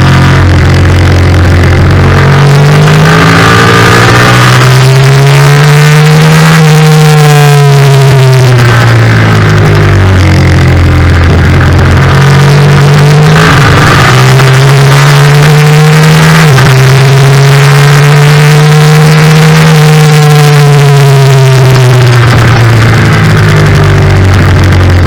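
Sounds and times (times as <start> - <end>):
motorcycle engine revving: 0.0 - 25.0
wind noise: 0.0 - 25.0.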